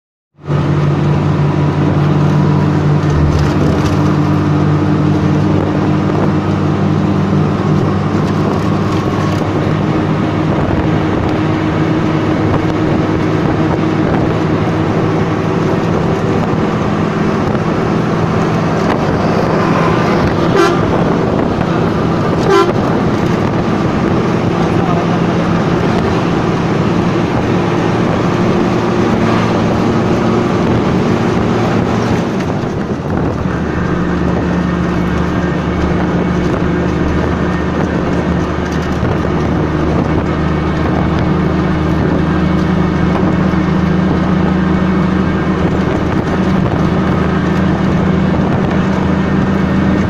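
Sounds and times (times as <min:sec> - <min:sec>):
road noise: 0:00.3 - 0:50.0
vehicle engine drone: 0:00.4 - 0:50.0.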